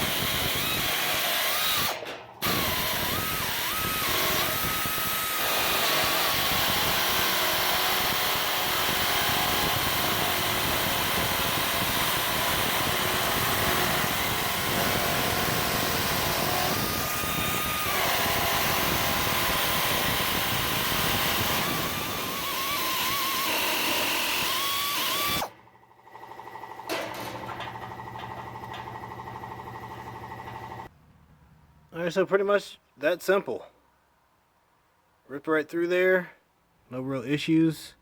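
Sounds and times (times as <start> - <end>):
pneumatic nibbler hammering: 0.0 - 30.9.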